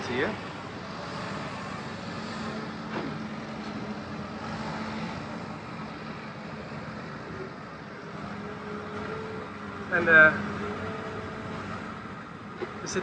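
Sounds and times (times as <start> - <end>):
faint engine tone: 0.0 - 13.0
road traffic hum: 0.0 - 13.0.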